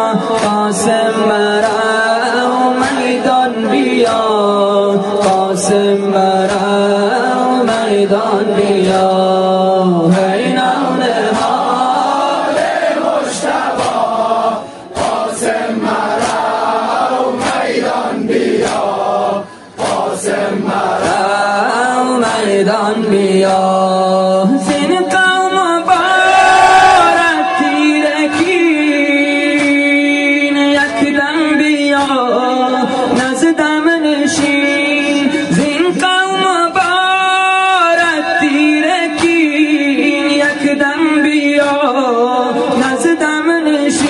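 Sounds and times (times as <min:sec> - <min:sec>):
chanted vocals over steady beat: 0:00.0 - 0:44.0.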